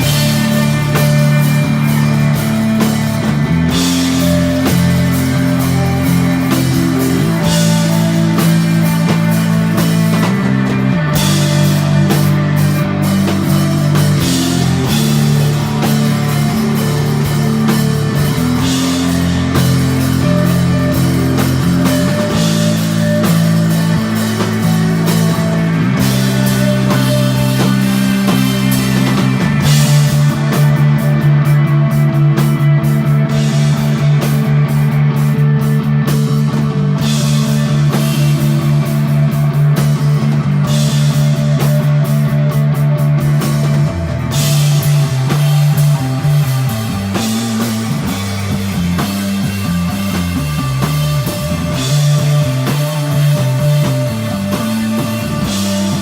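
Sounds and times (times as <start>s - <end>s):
electric guitar: 0.0s - 56.0s
held bass notes: 0.0s - 56.0s
live rock band playing: 0.0s - 56.0s.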